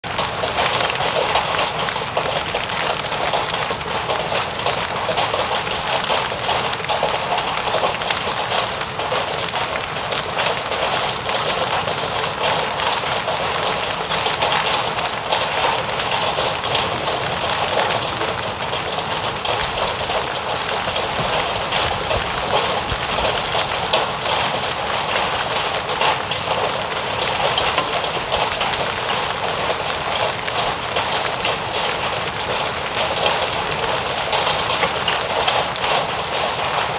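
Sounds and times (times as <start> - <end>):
hail ticking on asphalt: 0.0 - 36.9
heavy rain: 0.0 - 36.9.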